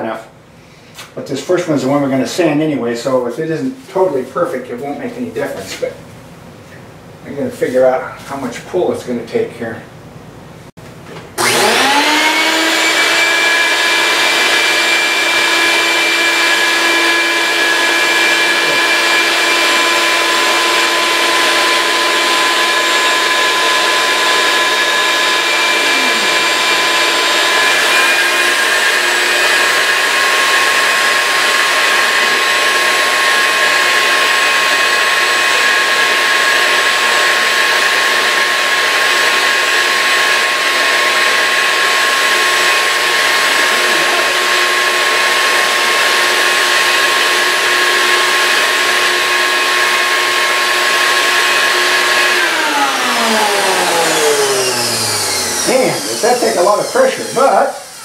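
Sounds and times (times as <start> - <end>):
vacuum motor running: 11.4 - 58.0.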